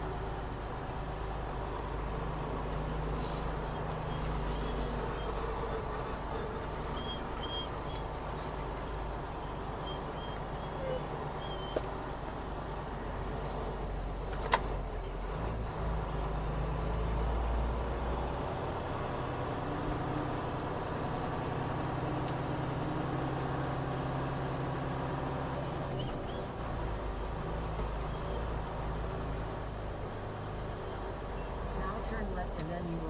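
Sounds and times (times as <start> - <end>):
diesel truck engine running: 0.0 - 33.0.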